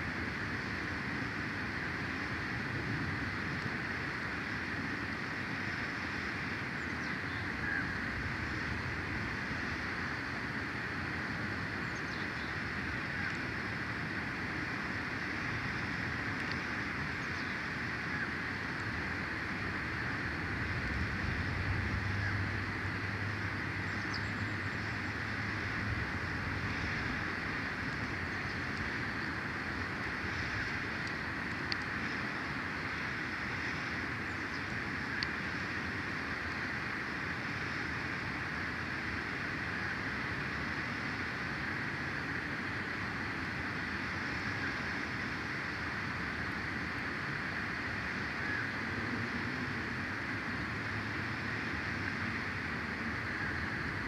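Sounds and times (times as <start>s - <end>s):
distant engine hum: 0.0s - 54.0s
wind through pine trees: 0.0s - 54.0s.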